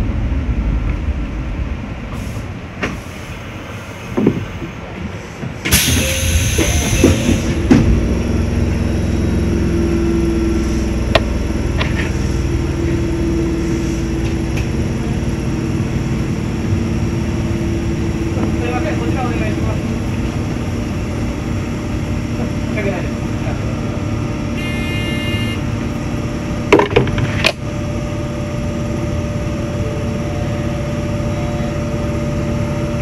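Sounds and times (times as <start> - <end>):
train rumbling and humming: 0.0 - 33.0.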